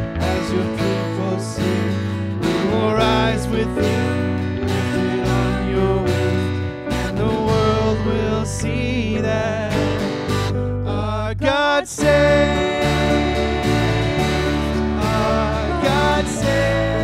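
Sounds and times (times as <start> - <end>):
voices singing: 0.0 - 9.7, 10.9 - 17.0
bass guitar: 0.0 - 17.0
strummed acoustic guitar: 0.0 - 17.0.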